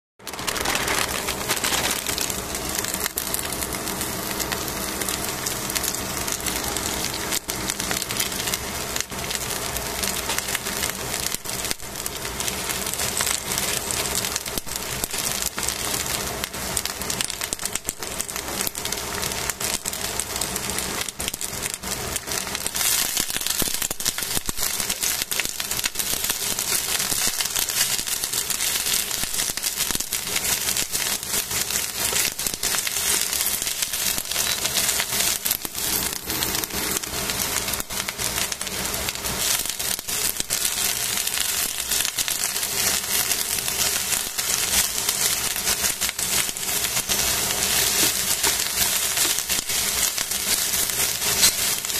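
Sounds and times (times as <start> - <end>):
vegetables sizzling in a pan: 0.2 - 51.9.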